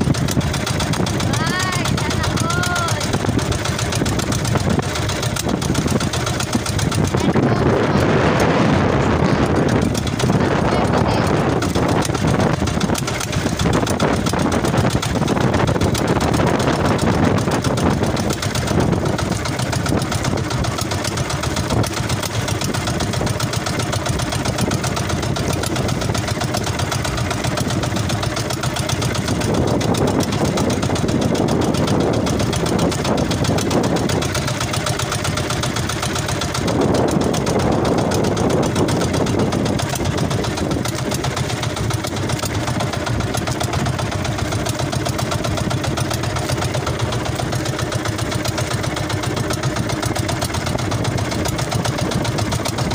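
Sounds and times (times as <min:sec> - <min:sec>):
boat engine running: 0:00.0 - 0:52.9.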